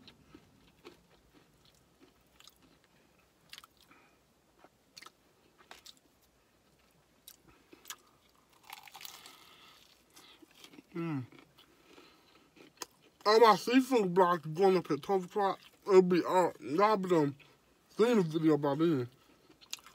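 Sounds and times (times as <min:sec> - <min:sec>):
sharp crunches of breading: 0:00.0 - 0:04.0, 0:04.6 - 0:16.4, 0:19.4 - 0:19.9
chewing crispy fried chicken: 0:00.0 - 0:19.9.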